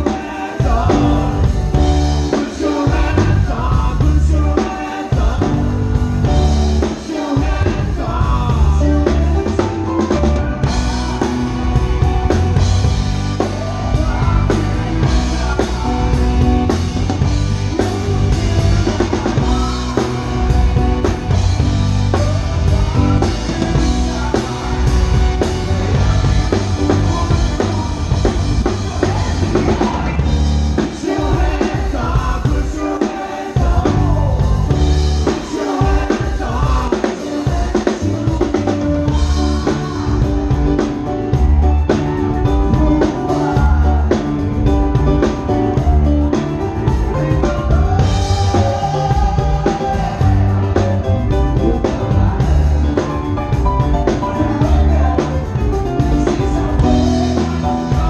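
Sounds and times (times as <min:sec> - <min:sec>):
lead vocal: 0:00.0 - 0:58.0
live rock band: 0:00.0 - 0:58.0.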